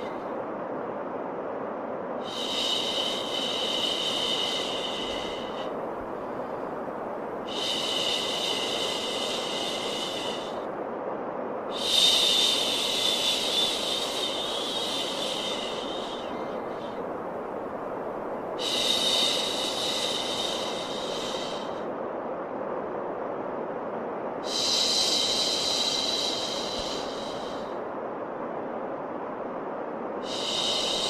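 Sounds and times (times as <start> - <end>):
steady white noise: 0.0 - 31.0.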